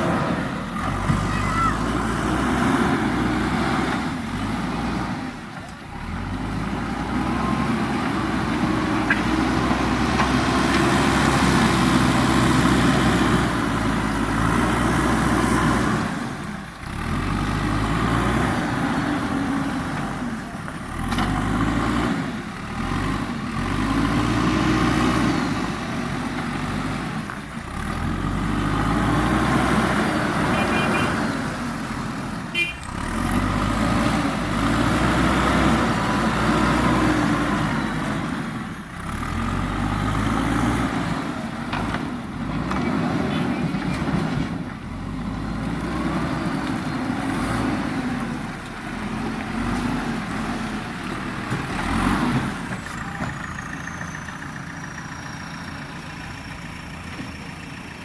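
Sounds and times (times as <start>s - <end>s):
diesel engine revving under load: 0.0s - 58.0s.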